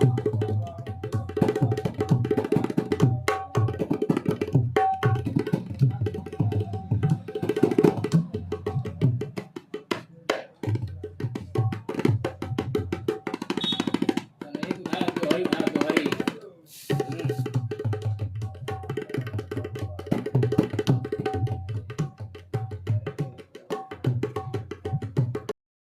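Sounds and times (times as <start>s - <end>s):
barrel drum played by hand: 0.0s - 25.6s.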